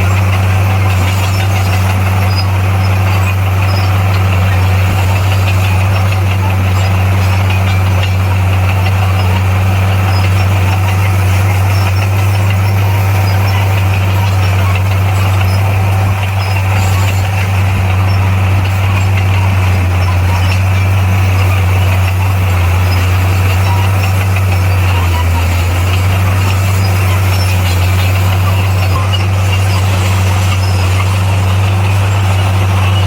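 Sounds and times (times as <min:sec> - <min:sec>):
bulldozer diesel engine drone: 0:00.0 - 0:33.0.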